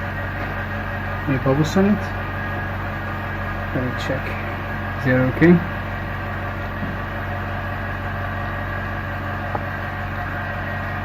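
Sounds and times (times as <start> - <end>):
electric machine hum: 0.0 - 11.0.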